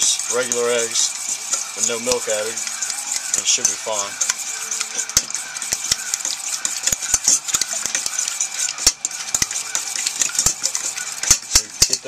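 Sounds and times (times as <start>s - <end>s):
fork beating eggs swishing: 0.0s - 12.0s
fork clinking against metal pot: 1.6s - 12.0s.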